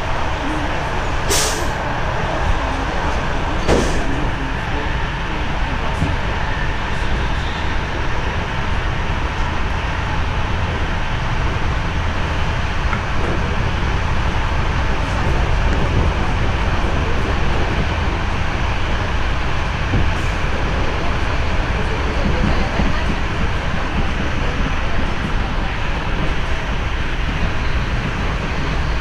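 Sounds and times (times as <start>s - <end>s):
train rumbling at speed: 0.0s - 29.0s.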